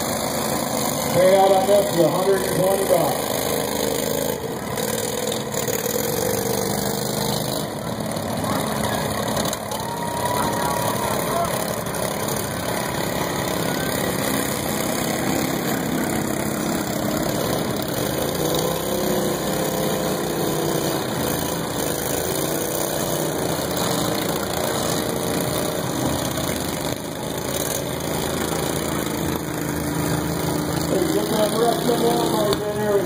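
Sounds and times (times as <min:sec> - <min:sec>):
riding lawn mower engines: 0:00.0 - 0:33.0.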